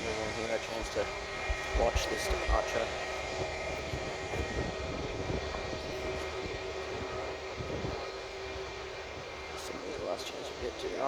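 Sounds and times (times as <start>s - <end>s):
distant aircraft engines: 0.0s - 11.0s.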